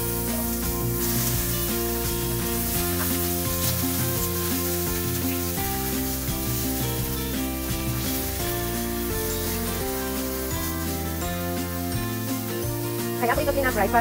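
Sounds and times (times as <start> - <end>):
background music: 0.0 - 14.0
meat sizzling in oil: 0.0 - 14.0
metal tongs turning meat: 1.0 - 12.5.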